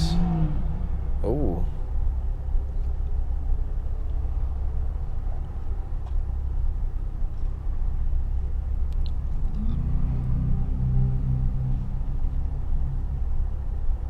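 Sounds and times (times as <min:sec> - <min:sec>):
car engine exhaust drone: 0:00.0 - 0:14.0
road rumble: 0:00.0 - 0:14.0.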